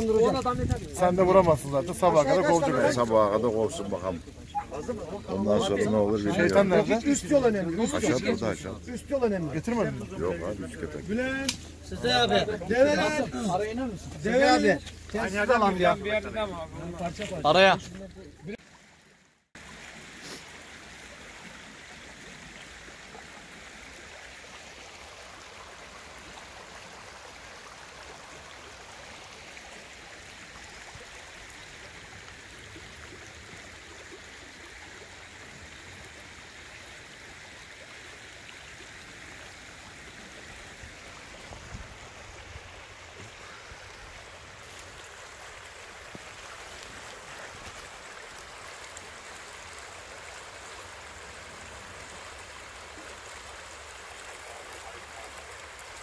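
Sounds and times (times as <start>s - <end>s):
stream flowing over gravel: 0.0s - 56.0s.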